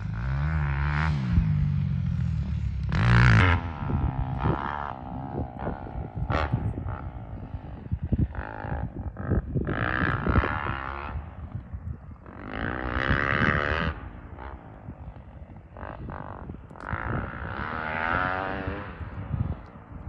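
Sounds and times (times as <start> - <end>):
dirt bike engine revving: 0.0 - 20.0
low rumble: 0.0 - 20.0.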